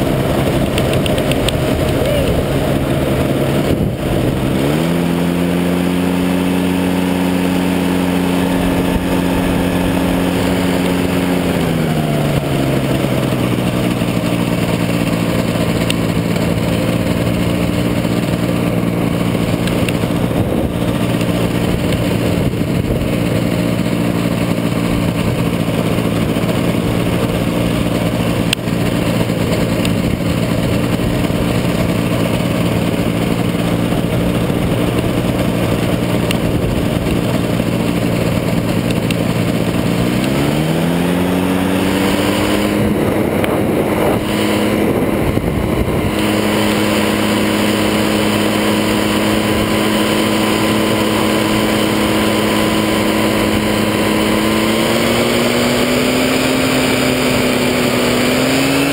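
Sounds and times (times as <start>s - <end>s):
engine and propeller running: 0.0s - 58.9s
wind rushing over microphone: 0.0s - 58.9s.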